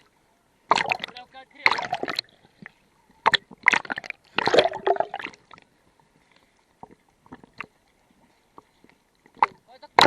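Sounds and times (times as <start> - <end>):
water splashing and gurgling: 0.0 - 10.0.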